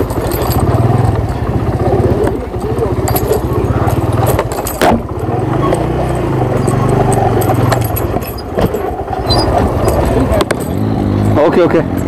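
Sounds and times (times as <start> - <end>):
knocks and rattles: 0.0 - 12.0
motorcycle engine at low revs: 0.0 - 12.0.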